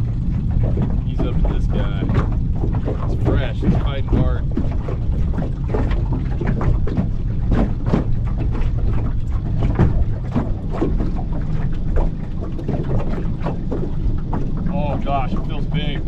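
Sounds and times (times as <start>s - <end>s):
outboard motor running: 0.0s - 16.0s
water slapping hull: 0.0s - 16.0s
wind on microphone: 0.0s - 16.0s.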